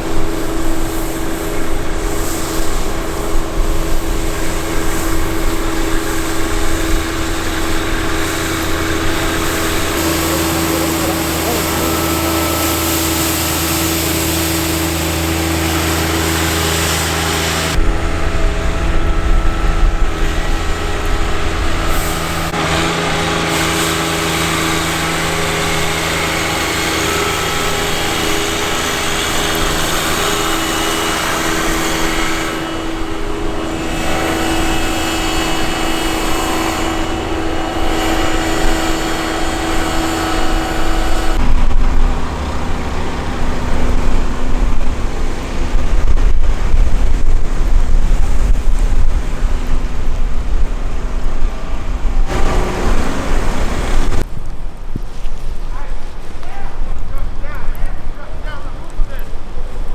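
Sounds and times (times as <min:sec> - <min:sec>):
vehicle engine humming: 0:00.0 - 0:54.3.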